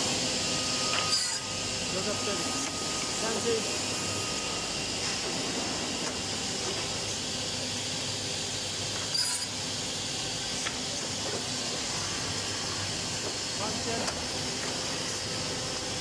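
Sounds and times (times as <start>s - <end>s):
woodworking machine hiss and hum: 0.0s - 16.0s.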